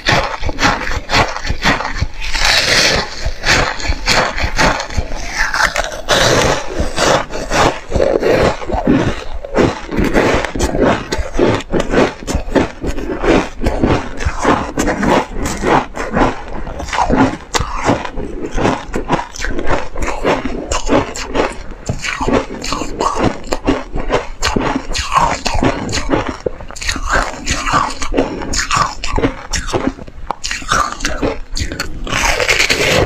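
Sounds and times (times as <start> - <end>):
ice being crunched and chewed: 0.0 - 33.0.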